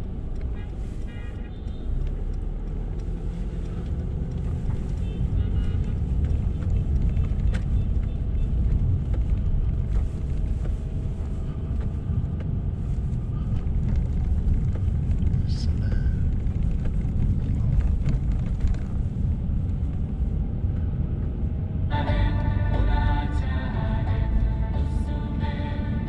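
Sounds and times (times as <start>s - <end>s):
car engine and tyres rumbling: 0.0s - 26.0s.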